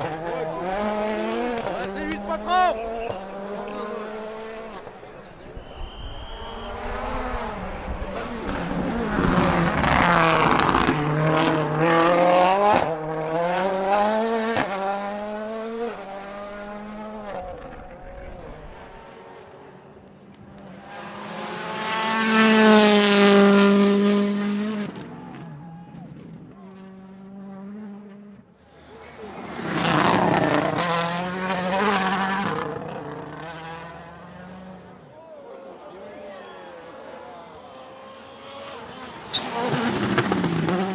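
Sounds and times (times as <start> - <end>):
rally car engine accelerating: 0.0 - 35.0, 36.7 - 40.9.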